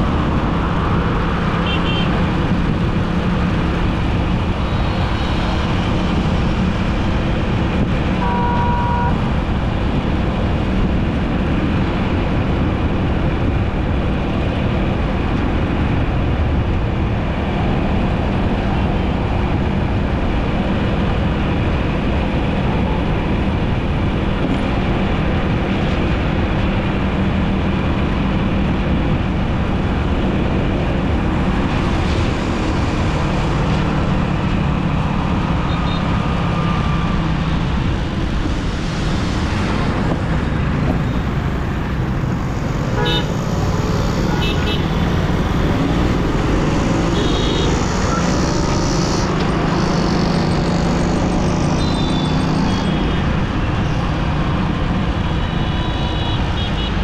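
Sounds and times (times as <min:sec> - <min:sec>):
vehicle driving in traffic: 0:00.0 - 0:57.0.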